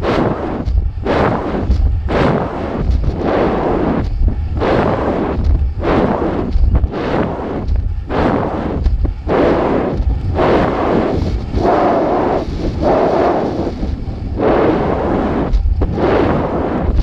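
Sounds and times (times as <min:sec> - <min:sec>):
constant low rumble: 0:00.0 - 0:17.0
wind buffeting microphone: 0:00.0 - 0:17.0.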